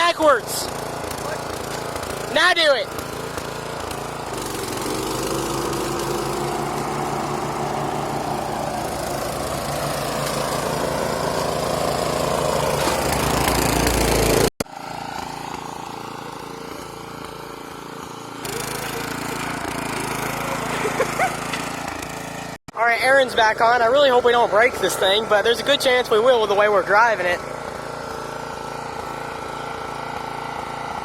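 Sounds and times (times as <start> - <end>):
riding lawn mower engine: 0.0 - 31.0.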